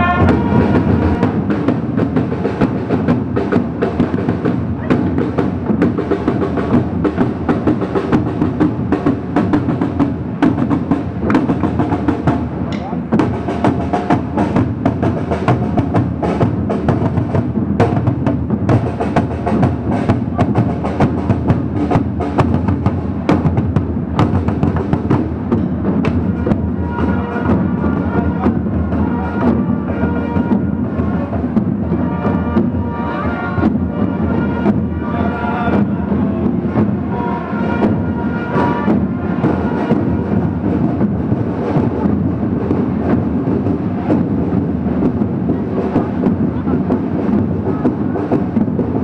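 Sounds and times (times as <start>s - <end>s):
parade drums beating: 0.0s - 49.0s.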